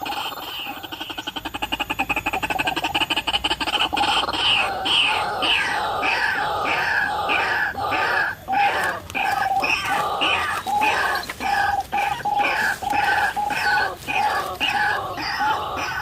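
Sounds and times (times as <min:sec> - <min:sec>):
waterhen croaking calls: 0:00.0 - 0:16.0.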